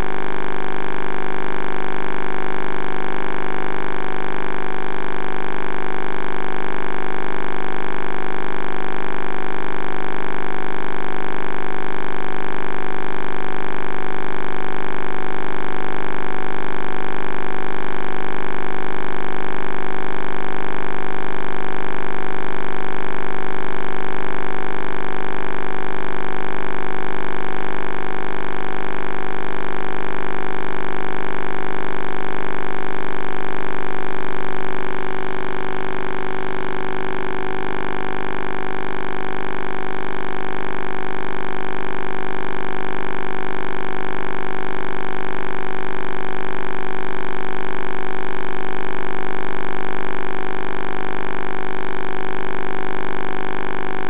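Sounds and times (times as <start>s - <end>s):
electrical hum and buzz: 0.0s - 16.6s, 19.5s - 48.8s.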